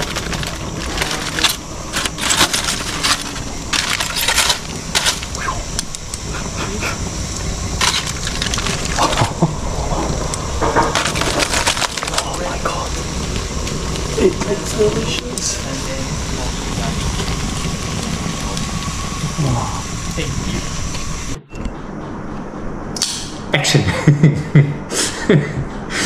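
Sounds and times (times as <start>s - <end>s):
grill crackling and popping: 0.0s - 21.4s.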